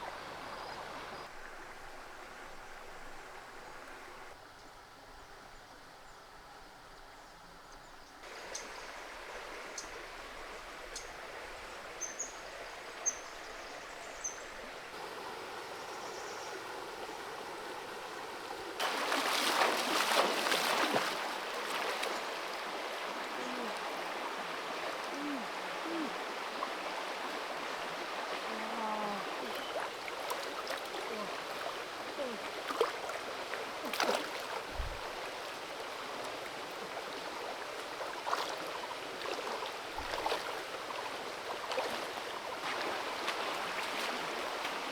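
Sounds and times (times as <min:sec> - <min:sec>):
creek water running: 0:00.0 - 0:44.9.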